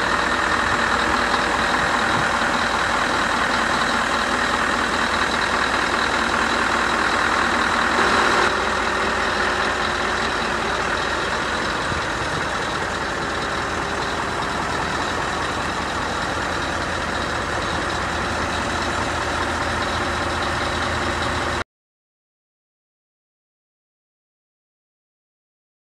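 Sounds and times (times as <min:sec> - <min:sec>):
diesel engine idling: 0:00.0 - 0:21.6.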